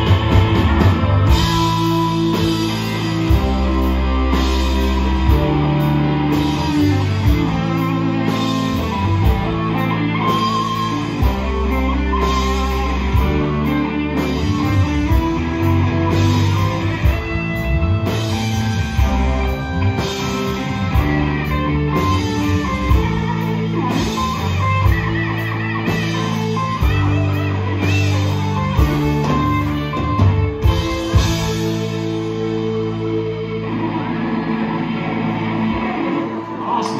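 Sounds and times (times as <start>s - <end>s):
drum kit with cymbal beat: 0.0s - 34.0s
bass guitar: 0.0s - 36.9s
electric guitars: 0.0s - 36.9s
live rock band: 0.0s - 36.9s.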